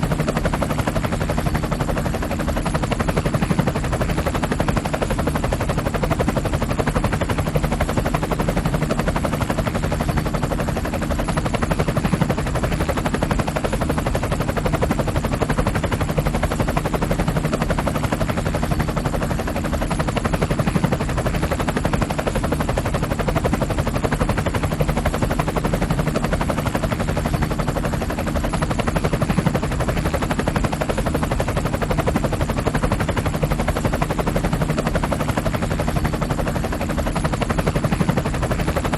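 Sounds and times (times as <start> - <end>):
helicopter rotor chopping effect: 0.0 - 38.9.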